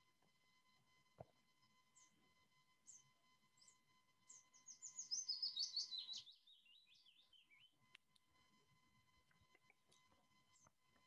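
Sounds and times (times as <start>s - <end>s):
warbler song: 1.4s - 11.0s.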